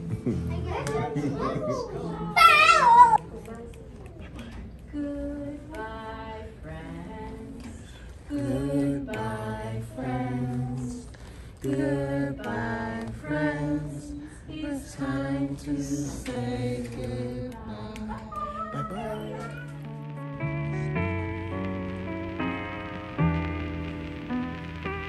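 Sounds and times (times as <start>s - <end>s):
group singing without instruments: 4.9s - 25.0s.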